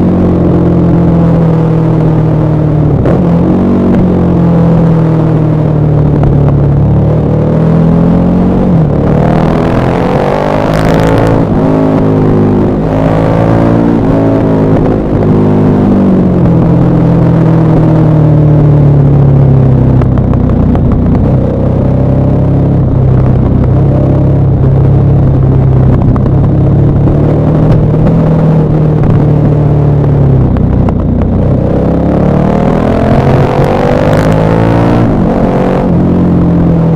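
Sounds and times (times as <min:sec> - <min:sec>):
exhaust crackle: 0:00.0 - 0:36.9
motorcycle engine revving: 0:00.0 - 0:36.9.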